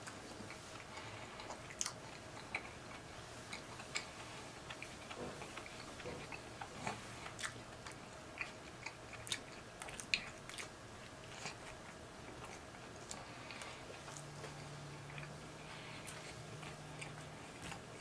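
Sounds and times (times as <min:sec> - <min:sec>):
man chewing with wet smacks: 0:00.0 - 0:18.0.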